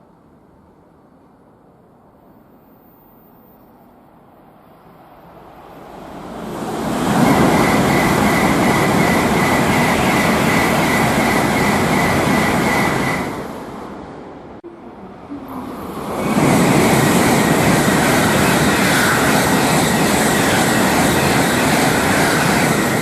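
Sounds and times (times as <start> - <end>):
high whine of train: 0.0 - 23.0
high-speed train rushing past: 0.0 - 23.0.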